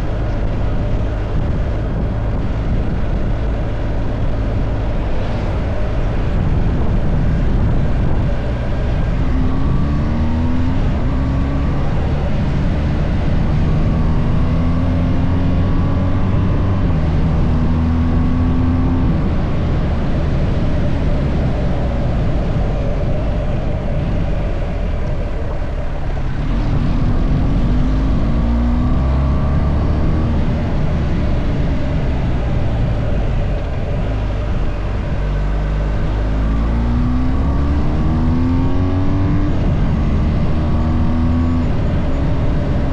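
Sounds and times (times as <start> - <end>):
car engine accelerating: 0.0 - 42.9
road rumble: 0.0 - 42.9.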